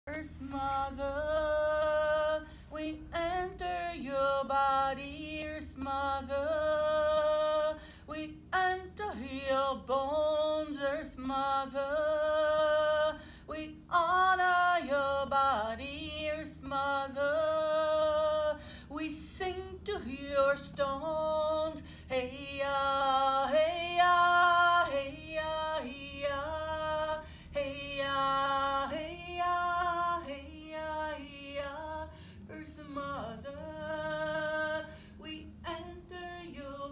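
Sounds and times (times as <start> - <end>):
woman singing unaccompanied: 0.1 - 36.9.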